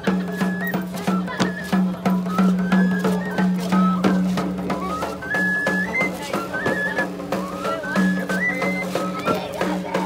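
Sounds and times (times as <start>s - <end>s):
flute melody: 0.0s - 10.0s
steady drum beat: 0.0s - 10.0s.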